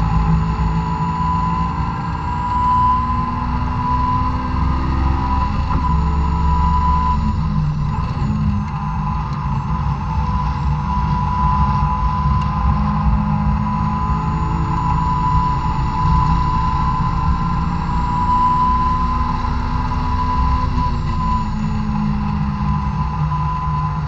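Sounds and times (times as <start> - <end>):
car engine at high revs: 0.0 - 24.0
steady high whine: 0.0 - 24.0.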